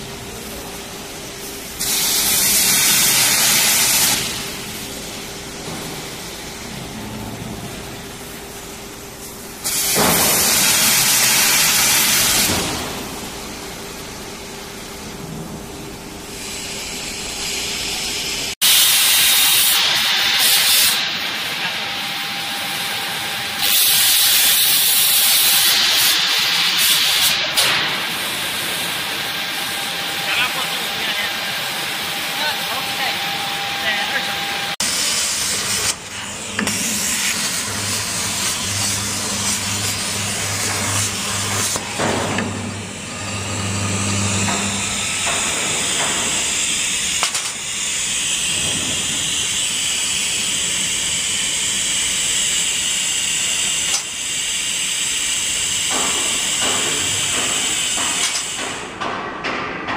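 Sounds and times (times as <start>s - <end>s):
plasma torch hissing bursts: 1.6s - 6.7s, 9.6s - 14.1s, 16.3s - 43.2s, 43.9s - 59.0s.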